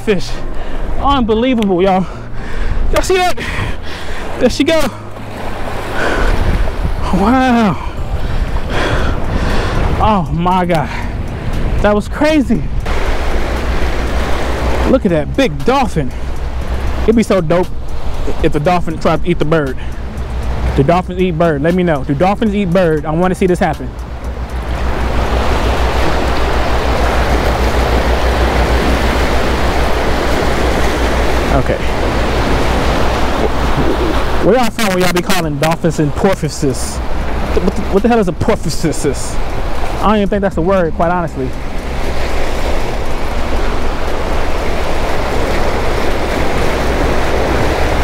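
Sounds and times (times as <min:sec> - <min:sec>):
waves breaking against rocks: 0:00.0 - 0:48.0
wind buffeting microphone: 0:00.0 - 0:48.0.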